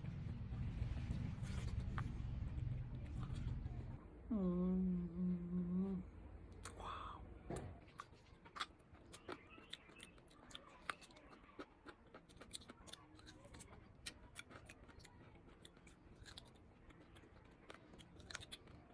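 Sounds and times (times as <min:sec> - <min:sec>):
crisp food being chewed: 0:00.1 - 0:04.0, 0:06.5 - 0:18.9.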